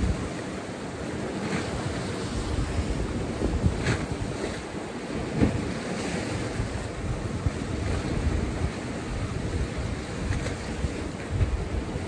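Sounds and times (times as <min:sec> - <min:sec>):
wind buffeting microphone: 0:00.0 - 0:00.5, 0:01.1 - 0:12.0
sea washing against rocks: 0:00.0 - 0:12.0.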